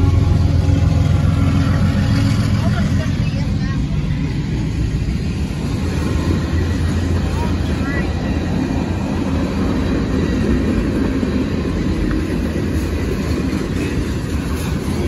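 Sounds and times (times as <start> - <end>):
freight train rumbling and rattling: 0.0 - 15.0.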